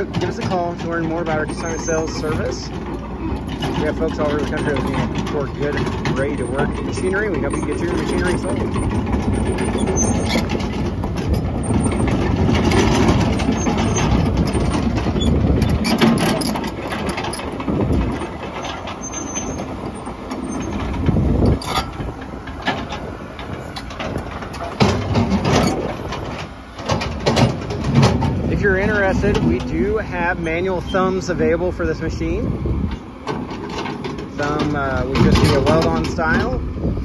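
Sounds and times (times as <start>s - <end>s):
steel tracks moving: 0.0s - 36.7s
excavator diesel engine running: 0.0s - 37.0s.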